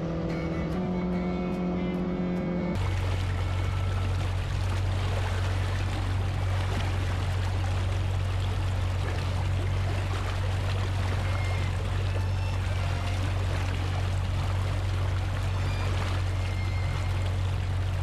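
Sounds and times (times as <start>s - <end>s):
boat engine drone: 0.0s - 18.0s
water rushing: 0.0s - 18.0s.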